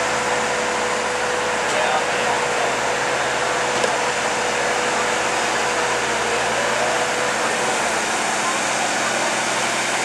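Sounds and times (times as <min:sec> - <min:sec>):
tractor engine under load: 0:00.0 - 0:10.0.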